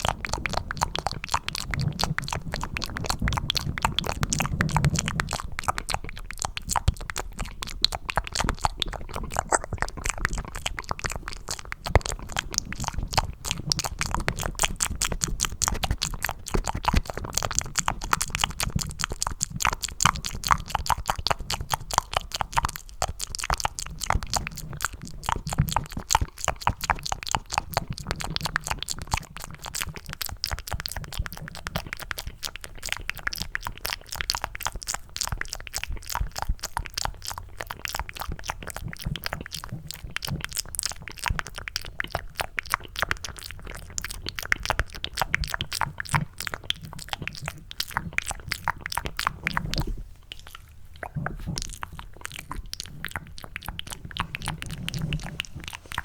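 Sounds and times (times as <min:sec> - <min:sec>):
wet mouth clicks and smacks: 0:00.0 - 0:56.0.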